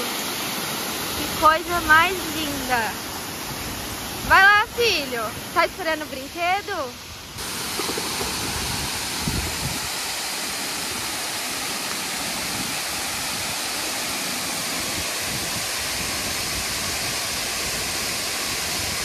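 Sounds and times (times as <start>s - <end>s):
water splashing: 0.0s - 19.0s
waterfall rushing into pool: 0.0s - 19.0s.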